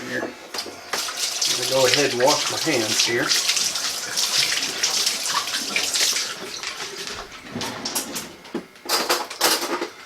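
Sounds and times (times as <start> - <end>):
tap water running: 0.1 - 8.6.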